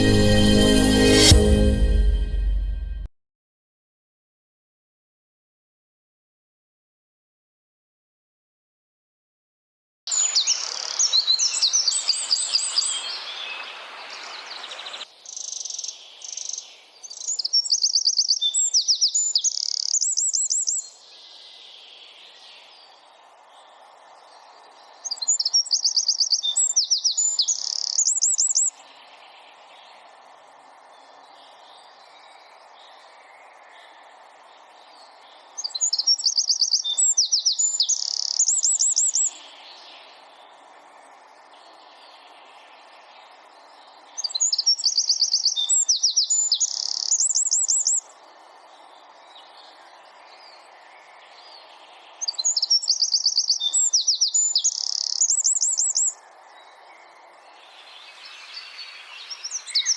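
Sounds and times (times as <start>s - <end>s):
wren singing: 10.1s - 33.6s, 34.2s - 40.7s, 41.4s - 59.9s
faint steady hiss: 10.1s - 59.9s.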